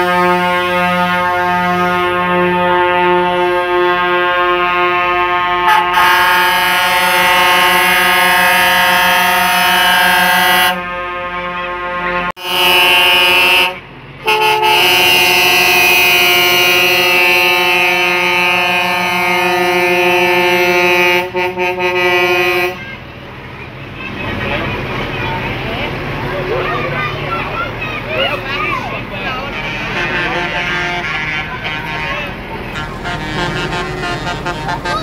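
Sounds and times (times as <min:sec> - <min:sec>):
truck air horn blasts: 0:00.0 - 0:23.1, 0:29.2 - 0:35.0.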